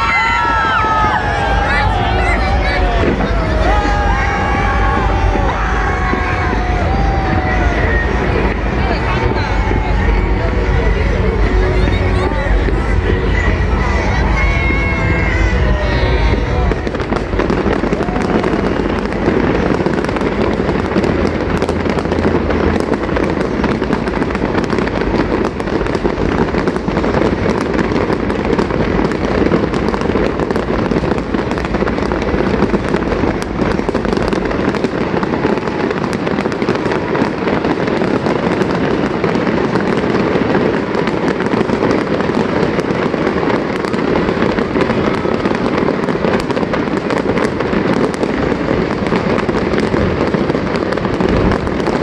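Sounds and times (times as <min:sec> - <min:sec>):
fireworks popping and banging: 0:00.0 - 0:52.0.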